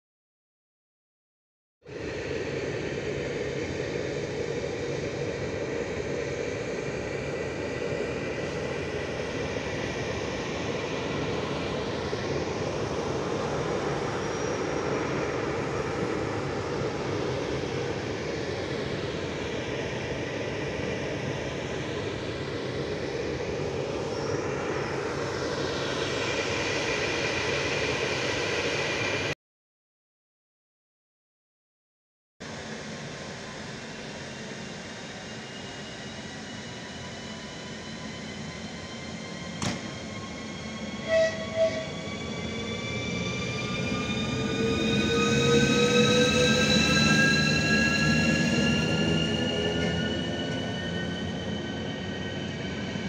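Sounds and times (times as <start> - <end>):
electric train rumble and hum: 1.9 - 29.3, 32.4 - 53.0
train whines gliding in pitch: 1.9 - 29.3, 32.4 - 53.0.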